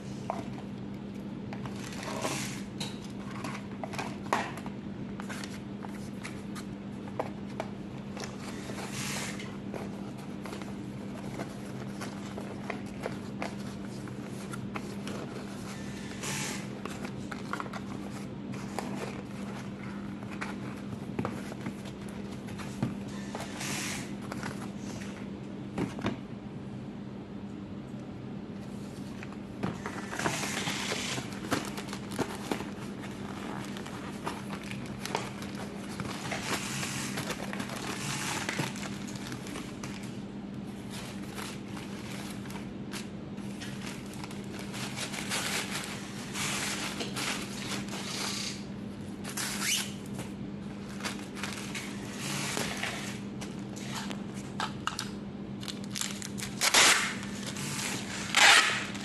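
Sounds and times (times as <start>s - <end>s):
steady low hum: 0.0s - 59.0s
handling rustling and scraping: 1.6s - 25.2s, 28.7s - 40.2s, 40.8s - 54.5s.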